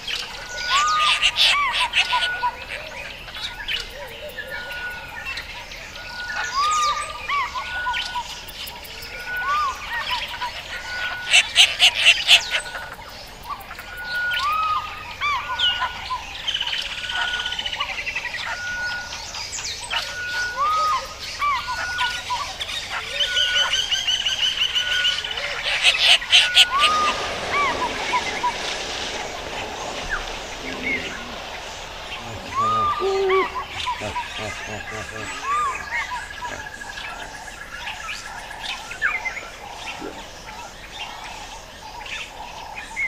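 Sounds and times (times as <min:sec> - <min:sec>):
birds chirping and trilling: 0:00.0 - 0:43.0.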